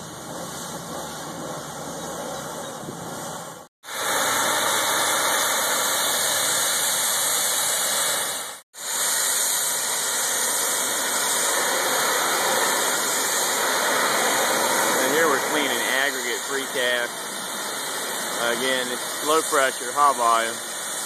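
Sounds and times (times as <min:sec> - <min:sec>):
pressure washer spraying water: 0:00.0 - 0:21.0.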